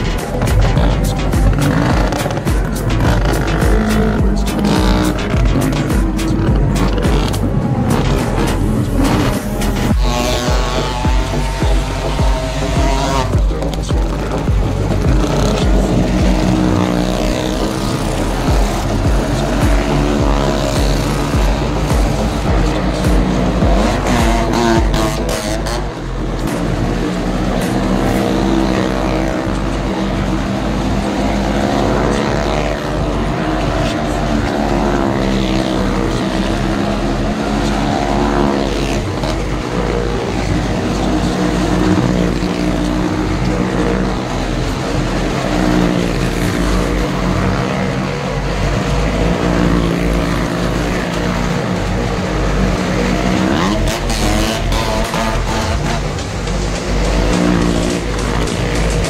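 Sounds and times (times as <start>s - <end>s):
droning motor: 0.0s - 59.0s
loudspeaker music with deep beat: 0.0s - 59.0s.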